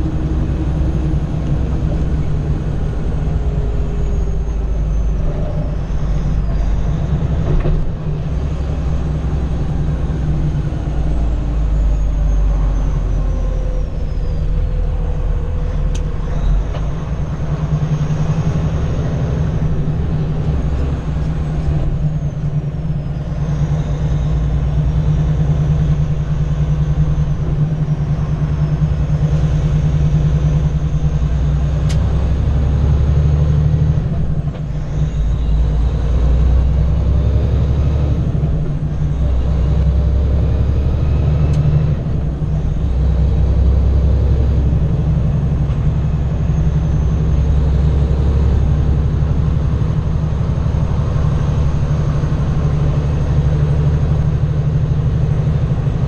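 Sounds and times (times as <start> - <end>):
diesel truck engine droning: 0.0 - 56.0
tyre and road noise: 0.0 - 56.0.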